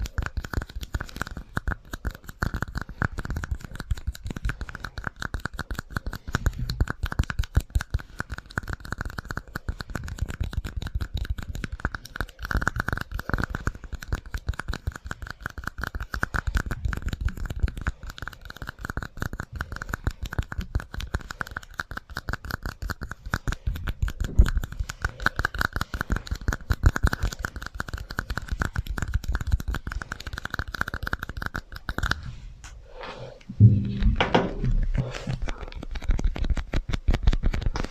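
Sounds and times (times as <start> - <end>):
fast tapping and scratching with echo: 0.0 - 32.4, 33.6 - 37.9.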